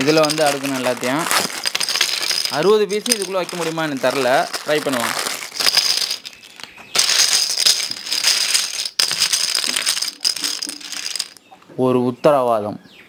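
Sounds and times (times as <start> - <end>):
plastic dominoes clattering: 0.0 - 11.4.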